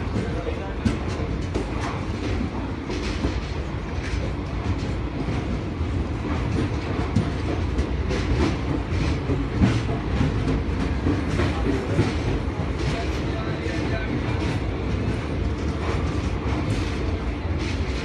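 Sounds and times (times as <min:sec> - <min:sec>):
train coaches rumbling past: 0:00.0 - 0:18.0
wheels clicking on track: 0:00.0 - 0:18.0.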